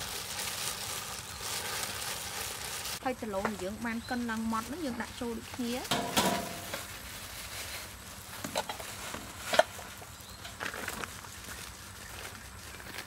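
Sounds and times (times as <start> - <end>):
plastic rustling: 0.0 - 13.0.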